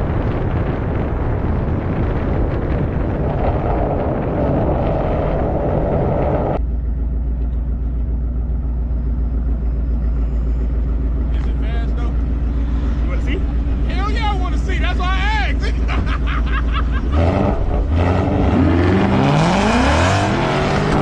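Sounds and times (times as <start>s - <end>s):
car engine running hard: 0.0s - 21.0s.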